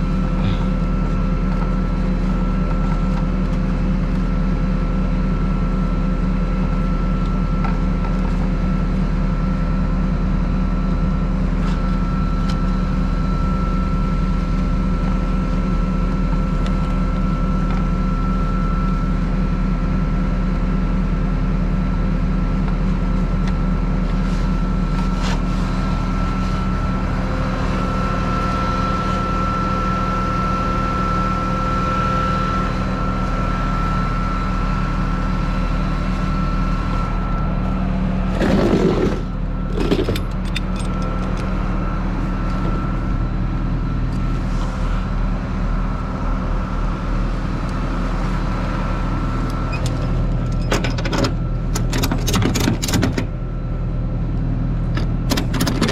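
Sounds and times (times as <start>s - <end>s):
constant whine: 0.0s - 55.9s
truck engine and road drone: 0.0s - 55.9s.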